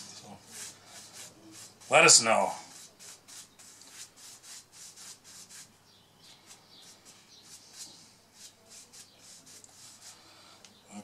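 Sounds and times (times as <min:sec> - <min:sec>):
rag rubbing on wood: 0:00.0 - 0:05.7, 0:06.8 - 0:10.2.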